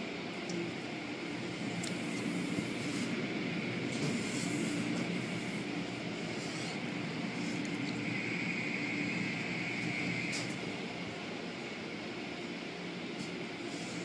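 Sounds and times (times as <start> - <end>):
car wash machinery hum: 0.0 - 14.0.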